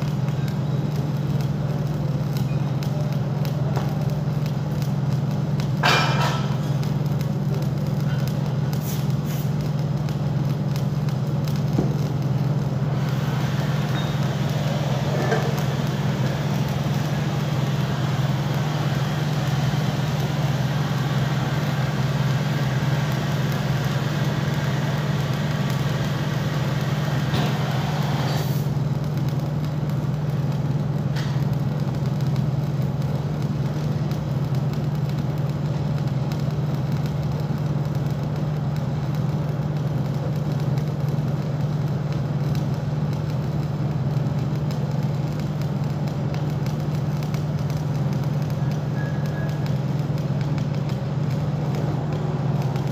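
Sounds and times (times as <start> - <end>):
arc welding hiss and crackle: 0.0 - 52.9
welding machine humming: 0.0 - 52.9.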